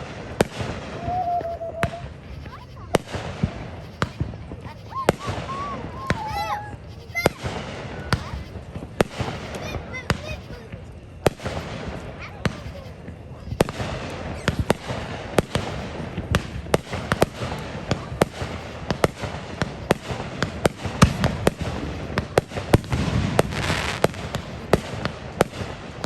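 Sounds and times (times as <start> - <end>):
fireworks bangs and cracks: 0.0 - 26.0
steady crackling: 0.0 - 26.0.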